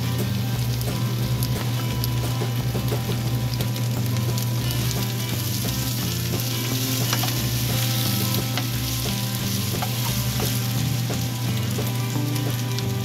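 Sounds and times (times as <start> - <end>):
fish cake sizzling in a frying pan: 0.0 - 13.0
utensil clicking against pan: 0.7 - 13.0.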